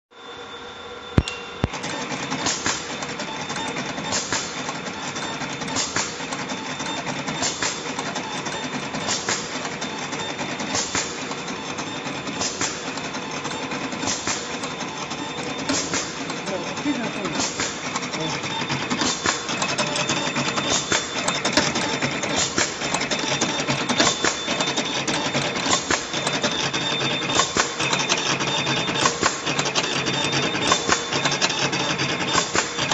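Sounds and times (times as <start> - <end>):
wire cutting machine running: 0.6 - 32.9
sharp mechanical clacks: 1.2 - 32.9.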